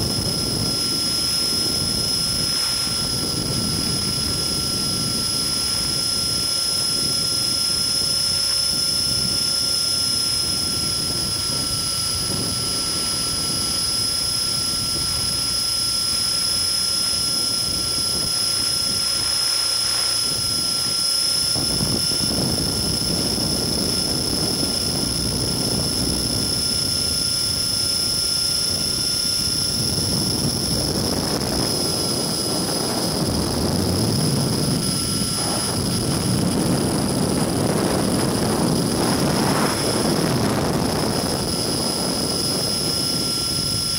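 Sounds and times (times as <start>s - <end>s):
electric motor high whine: 0.0s - 43.9s
rotor rushing: 0.0s - 43.9s.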